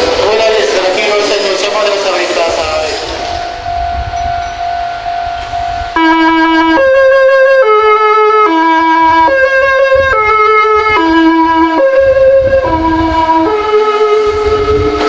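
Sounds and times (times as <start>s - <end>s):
train music horn melody: 1.7s - 15.0s.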